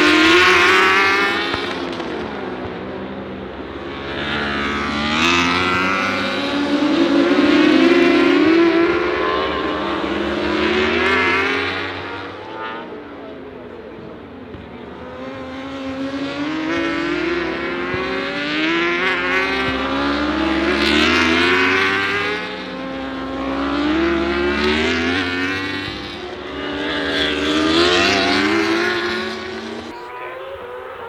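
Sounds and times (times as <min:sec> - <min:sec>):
racing motorcycles accelerating past: 0:00.0 - 0:31.0.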